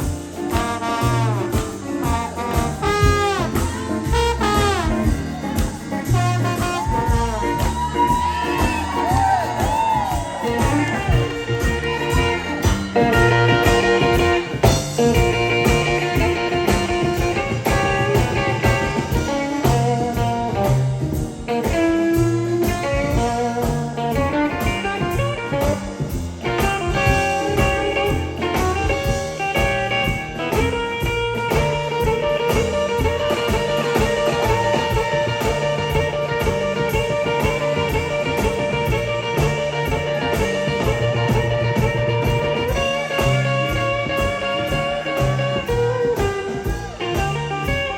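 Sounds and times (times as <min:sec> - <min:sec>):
drums: 0:00.0 - 0:47.9
electric guitar: 0:00.0 - 0:47.9
piano: 0:00.0 - 0:47.9
upright bass: 0:00.0 - 0:47.9.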